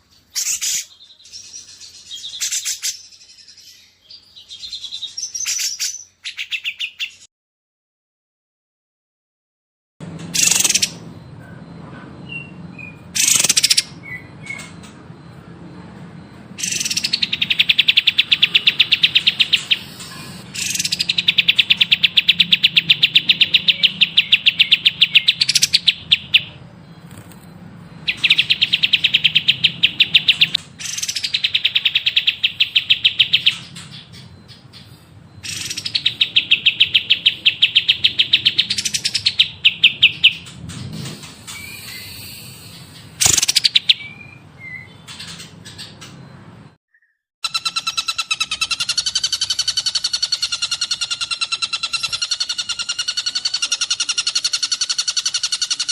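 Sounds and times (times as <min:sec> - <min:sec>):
soft bird twittering: 0:00.0 - 0:07.3, 0:10.2 - 0:55.9
songbird trilling: 0:00.0 - 0:07.3, 0:10.3 - 0:11.6, 0:12.2 - 0:15.4, 0:16.6 - 0:40.6, 0:41.3 - 0:46.2, 0:46.9 - 0:55.9.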